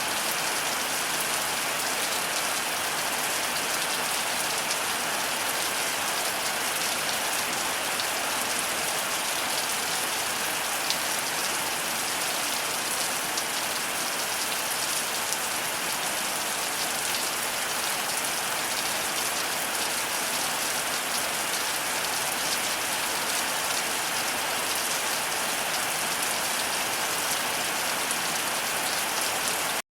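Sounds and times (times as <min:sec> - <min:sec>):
heavy rain falling: 0:00.0 - 0:29.8.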